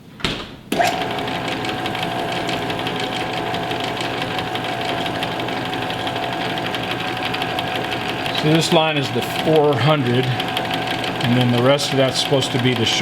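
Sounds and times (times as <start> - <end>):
fast fine drive rattle: 0.8 - 13.0
metal lathe whining: 0.8 - 13.0.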